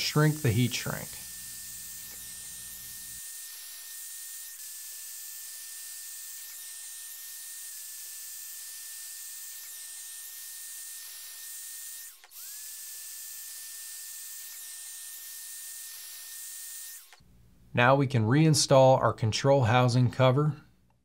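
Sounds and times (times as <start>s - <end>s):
heat gun blowing with whine: 0.0s - 17.3s.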